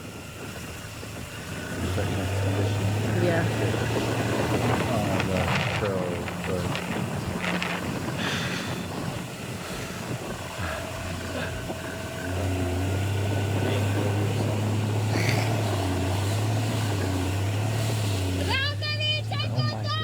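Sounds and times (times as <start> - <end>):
outboard motor running: 0.0 - 20.0
rushing water: 0.0 - 20.0
wind: 0.0 - 20.0.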